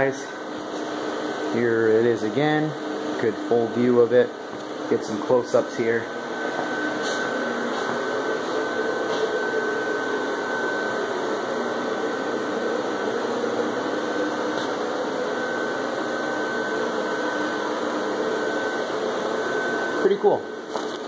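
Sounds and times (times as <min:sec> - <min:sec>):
blower fan running with whine: 0:00.0 - 0:21.0.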